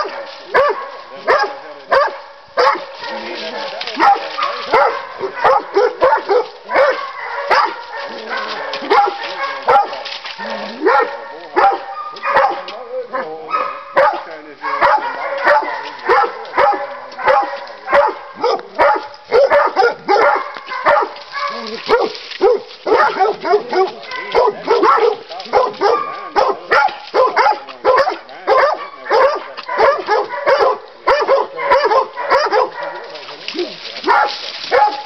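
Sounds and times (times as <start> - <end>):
dog barking: 0.0 - 35.0.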